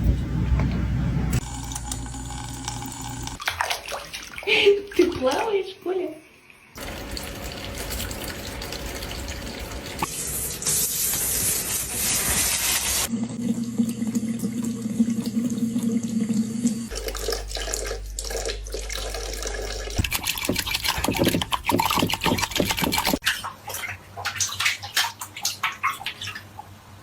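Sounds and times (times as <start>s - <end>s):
water running and splashing: 1.4s - 5.7s, 6.8s - 26.7s.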